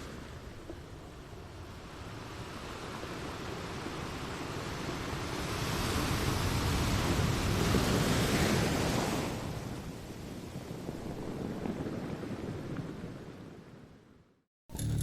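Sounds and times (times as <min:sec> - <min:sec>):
ocean waves rumbling: 0:00.0 - 0:14.2.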